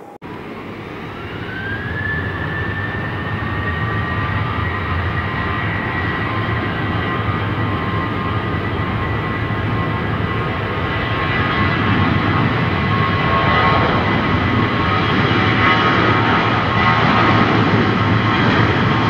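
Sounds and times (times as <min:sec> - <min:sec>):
jet engine whine: 0:00.0 - 0:19.0.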